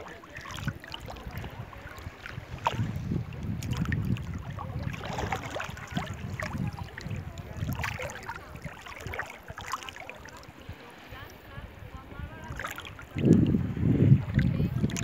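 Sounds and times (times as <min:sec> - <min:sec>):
seawater sloshing and lapping: 0:00.0 - 0:15.0
small water splashes: 0:00.0 - 0:15.0
wind buffeting microphone: 0:00.0 - 0:15.0.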